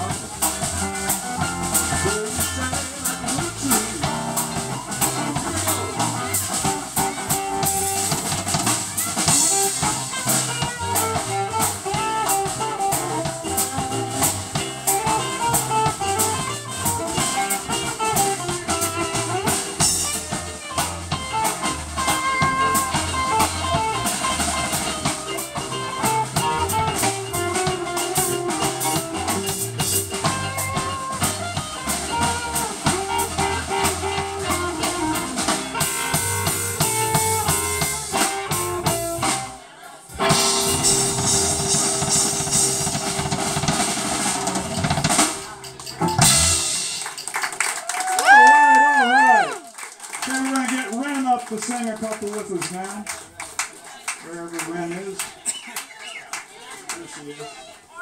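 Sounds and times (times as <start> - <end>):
live blues band: 0.0 - 58.0.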